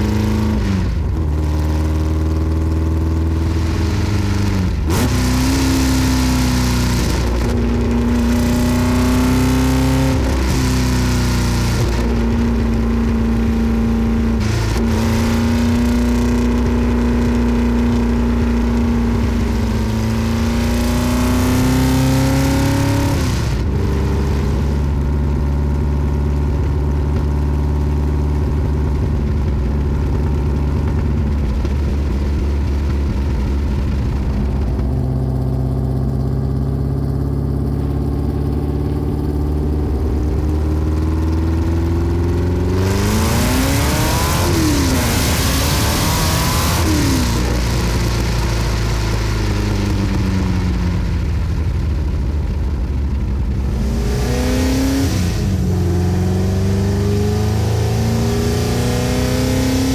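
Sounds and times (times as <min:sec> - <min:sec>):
loud car engine exhaust: 0:00.0 - 0:59.9.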